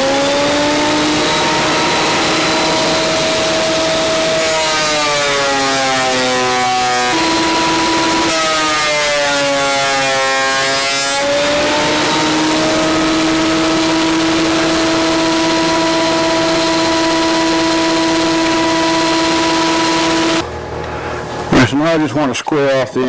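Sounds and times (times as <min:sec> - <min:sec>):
power tool cutting wood: 0:00.0 - 0:20.5
electric motor whine: 0:00.0 - 0:21.6.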